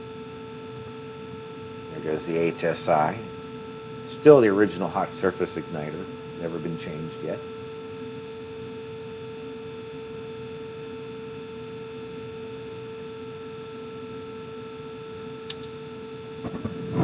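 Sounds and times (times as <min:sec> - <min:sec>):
furnace fan humming: 0:00.0 - 0:17.0.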